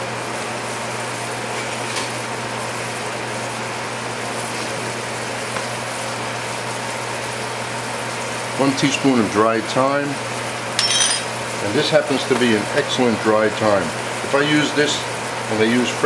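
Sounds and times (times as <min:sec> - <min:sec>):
pan simmering hiss: 0:02.2 - 0:16.0.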